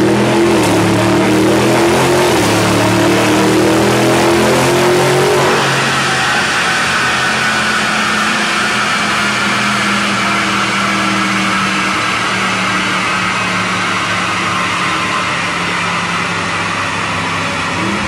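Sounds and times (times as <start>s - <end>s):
car engine running on dynamometer: 0.0s - 18.0s
dense rushing noise: 2.1s - 18.0s.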